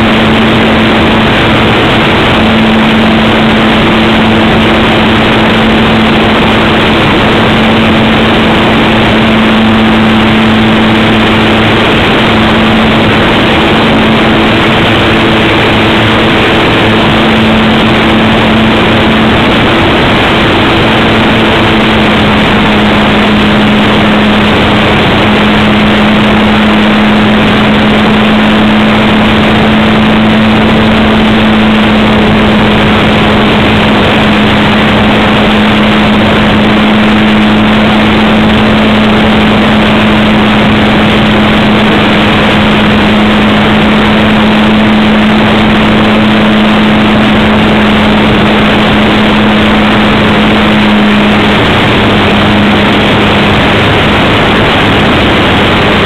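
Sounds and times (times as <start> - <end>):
electric motor humming: 0.0 - 56.0
propeller hiss: 0.0 - 56.0.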